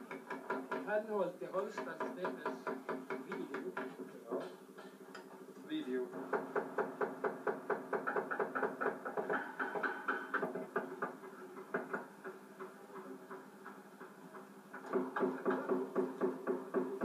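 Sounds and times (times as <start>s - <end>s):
rapid even knocking: 0.0s - 5.4s, 6.1s - 17.0s.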